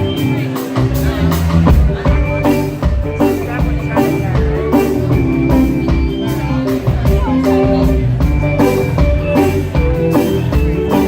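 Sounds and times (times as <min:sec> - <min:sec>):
live band playing instrumental: 0:00.0 - 0:11.0
steady drum beat: 0:00.0 - 0:11.0.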